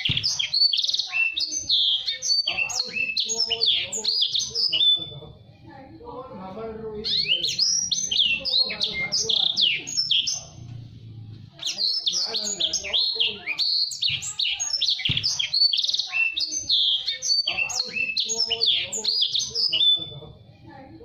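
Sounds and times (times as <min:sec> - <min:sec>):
songbird singing high chirps: 0:00.0 - 0:05.1, 0:07.0 - 0:10.5, 0:11.6 - 0:20.1.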